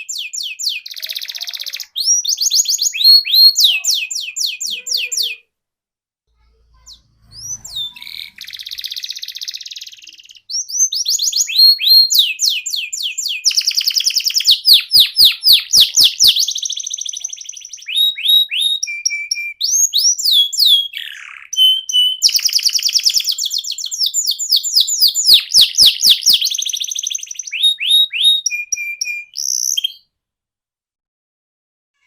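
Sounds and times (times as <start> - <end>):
canary singing: 0.0 - 5.5, 6.4 - 30.1.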